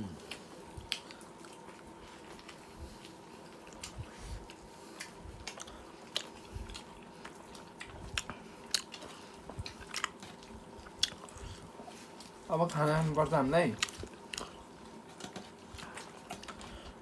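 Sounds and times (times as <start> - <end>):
person chewing: 0.0 - 13.2, 13.8 - 17.0
faint steady hum: 0.0 - 17.0.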